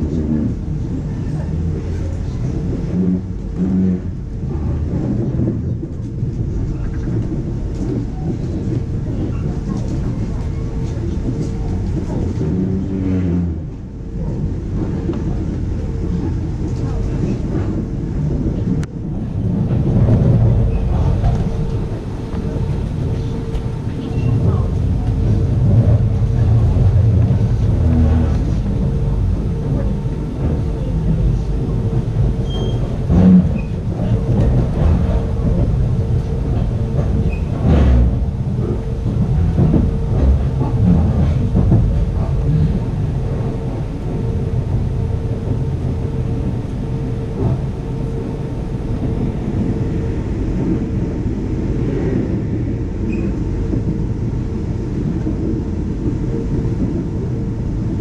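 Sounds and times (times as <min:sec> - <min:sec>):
faint constant hum: 0:00.0 - 0:58.0
rumble of train wheels: 0:00.0 - 0:58.0.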